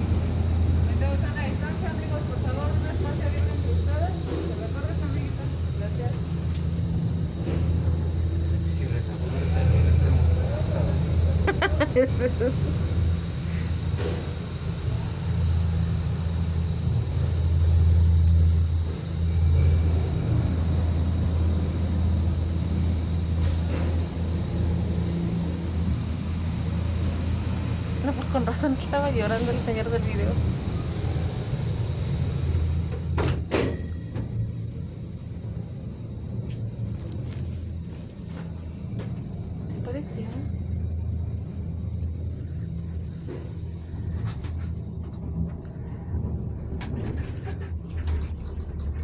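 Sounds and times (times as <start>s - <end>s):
cable car and station machinery rumble: 0.0s - 49.0s.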